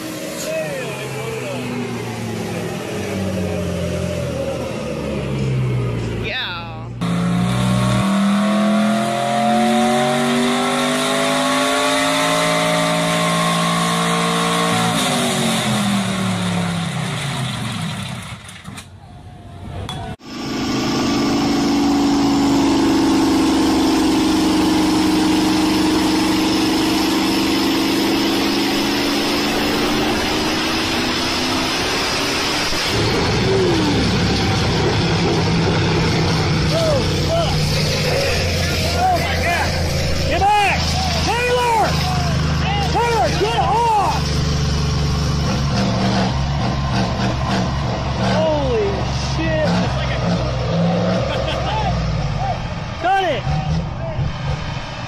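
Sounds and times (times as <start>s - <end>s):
truck engine at full throttle: 0.0s - 18.9s, 19.5s - 55.0s
diesel engine droning: 0.0s - 55.0s.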